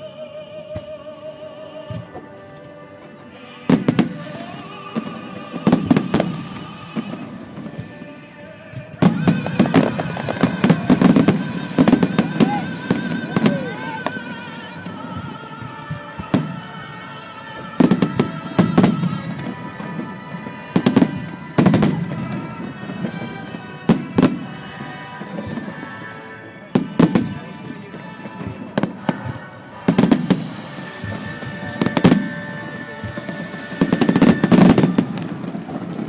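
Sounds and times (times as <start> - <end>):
music playing: 0.0 - 36.0
fireworks booming: 1.9 - 36.0.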